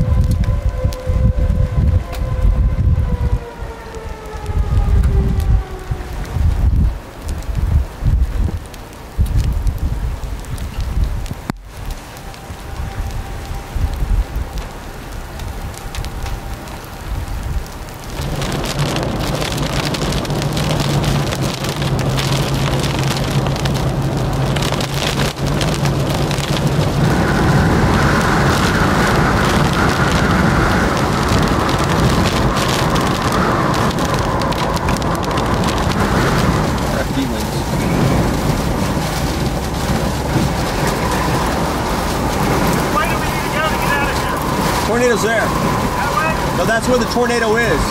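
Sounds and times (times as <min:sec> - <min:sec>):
heavy rain: 0:00.0 - 0:47.9
raindrops pattering: 0:00.0 - 0:47.9
wind: 0:00.0 - 0:47.9.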